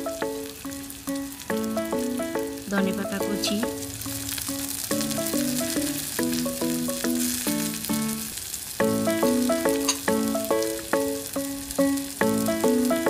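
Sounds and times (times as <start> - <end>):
instrumental background melody: 0.0 - 13.0
onions sizzling in hot oil: 0.0 - 13.0.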